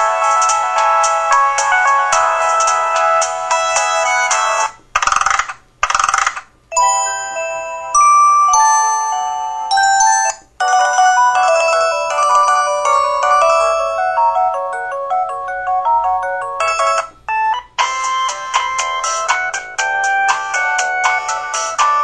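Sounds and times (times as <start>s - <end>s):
polyphonic ringtone melodies: 0.0s - 4.7s, 6.7s - 22.0s.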